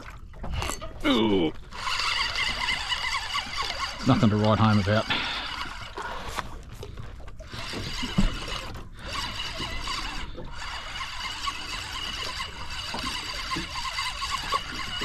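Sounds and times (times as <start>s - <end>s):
fishing reel cranking: 0.6s - 15.0s.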